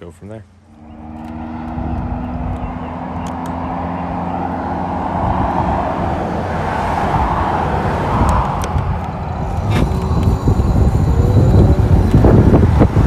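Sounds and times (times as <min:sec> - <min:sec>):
low traffic rumble: 0:00.0 - 0:13.0
car passing close by: 0:00.7 - 0:13.0.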